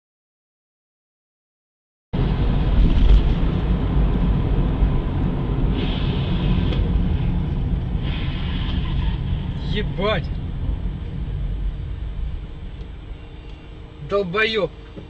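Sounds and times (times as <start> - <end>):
car engine and road noise: 2.2 - 15.0.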